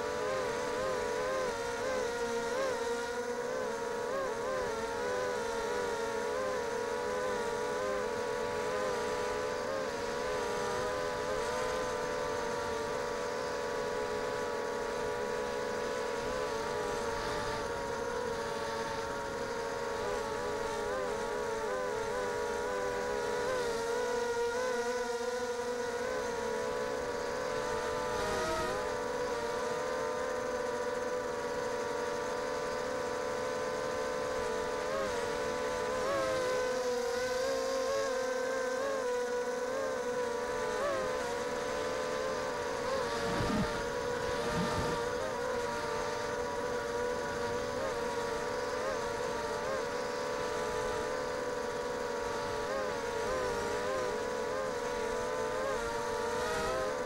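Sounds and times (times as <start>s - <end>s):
quadcopter motor whine: 0.0s - 57.0s.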